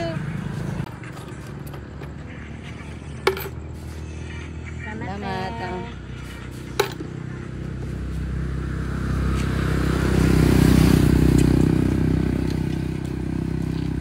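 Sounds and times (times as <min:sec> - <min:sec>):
vehicle engine passing by: 0:02.3 - 0:14.0.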